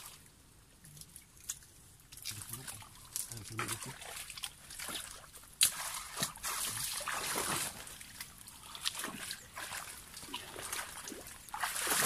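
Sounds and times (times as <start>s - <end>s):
water trickling in mud: 0.0s - 12.0s
water splashing: 0.9s - 12.0s.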